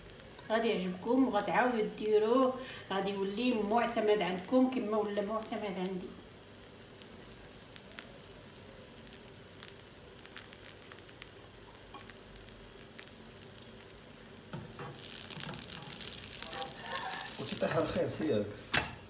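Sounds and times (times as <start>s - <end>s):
bread sizzling in a frying pan: 0.0s - 19.0s.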